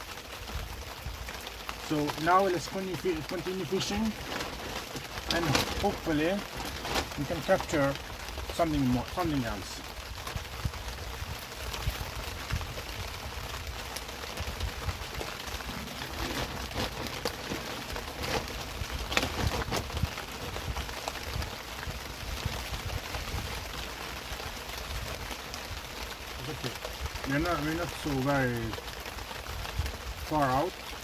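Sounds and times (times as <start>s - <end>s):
heavy rain pouring: 0.0s - 31.0s
raindrops tapping: 0.0s - 31.0s.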